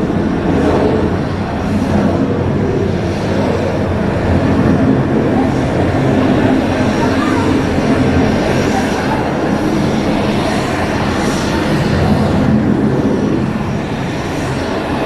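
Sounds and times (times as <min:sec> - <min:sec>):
jet airliner engines running: 0:00.0 - 0:15.0.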